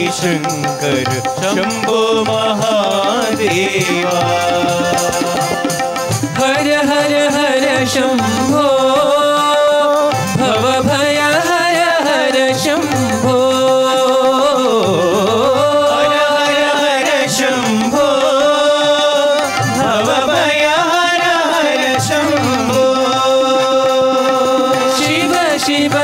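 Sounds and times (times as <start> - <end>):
instrumental accompaniment: 0.0 - 26.0
voices singing devotional song: 0.0 - 26.0.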